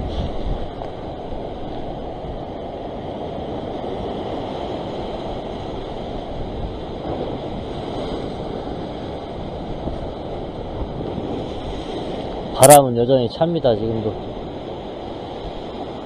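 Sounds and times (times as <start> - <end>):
ocean waves breaking on rocks: 0.0 - 16.0.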